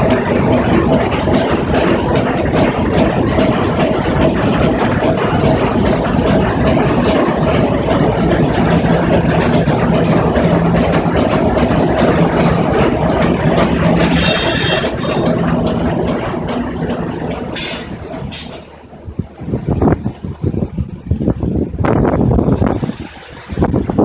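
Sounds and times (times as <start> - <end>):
steam engines clattering: 0.0 - 24.0.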